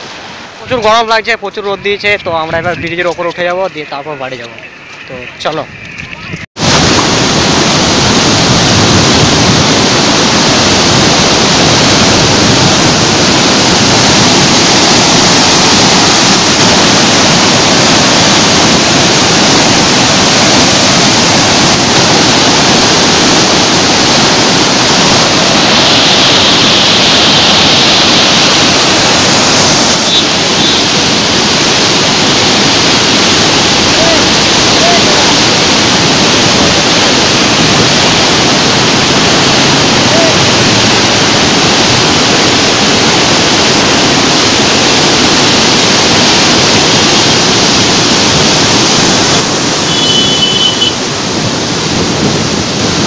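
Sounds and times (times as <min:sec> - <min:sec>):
water rushing through sluice gates: 0:06.6 - 0:53.0.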